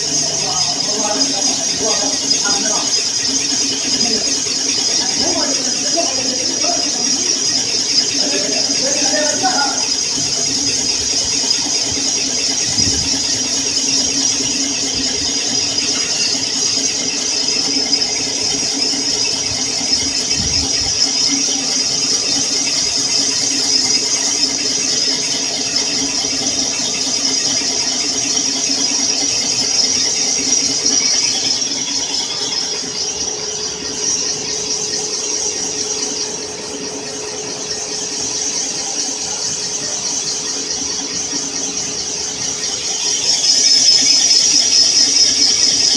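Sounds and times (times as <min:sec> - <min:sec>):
boring bar squealing: 0:00.0 - 0:45.9.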